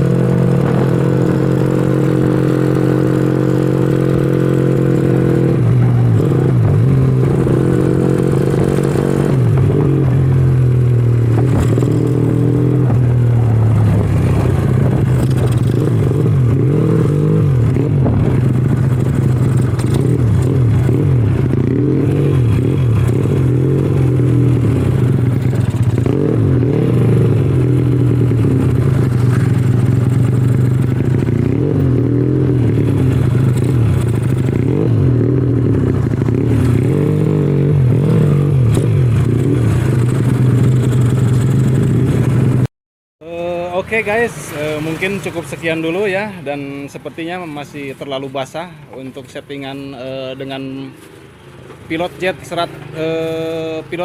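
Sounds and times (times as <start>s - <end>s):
motorcycle engine revving: 0.0s - 42.7s, 43.3s - 54.0s.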